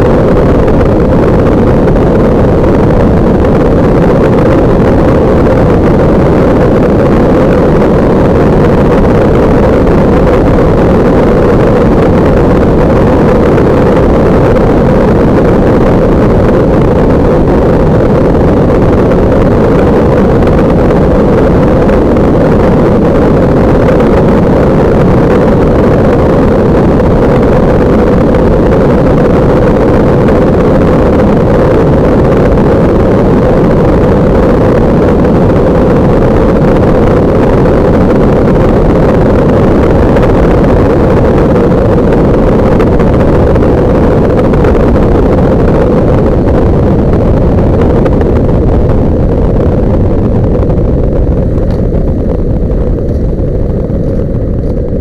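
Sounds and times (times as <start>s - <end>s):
ultralight engine and propeller drone: 0.0s - 55.0s
wind blowing across microphone: 0.0s - 55.0s.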